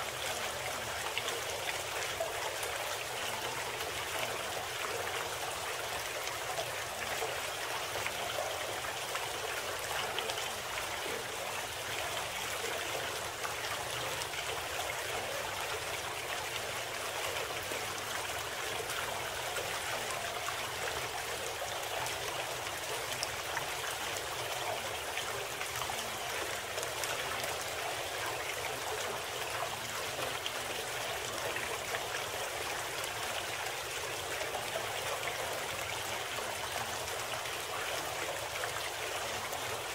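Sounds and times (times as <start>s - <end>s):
running stream water: 0.0s - 39.9s.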